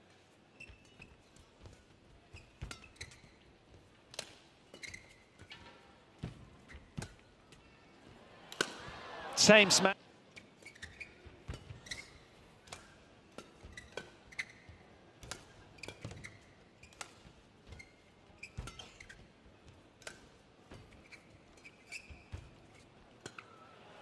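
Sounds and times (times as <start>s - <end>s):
shoes squeaking on court: 0.5s - 7.9s, 10.4s - 19.3s, 20.1s - 23.5s.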